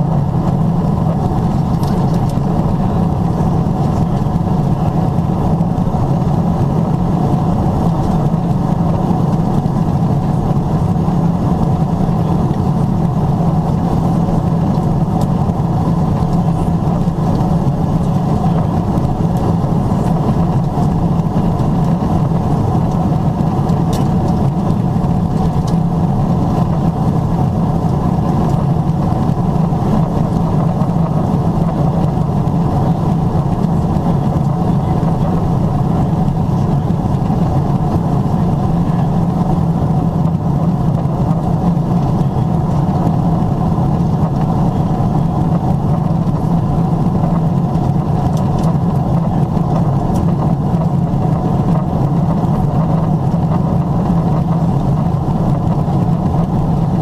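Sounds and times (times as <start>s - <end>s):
airliner engines droning: 0.0s - 57.0s
rushing airflow: 0.0s - 57.0s.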